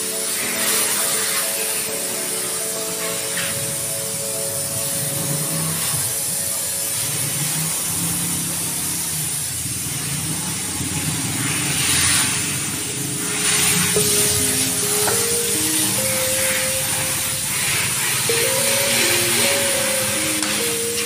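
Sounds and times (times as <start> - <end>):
hose spraying water on car: 0.0 - 21.0.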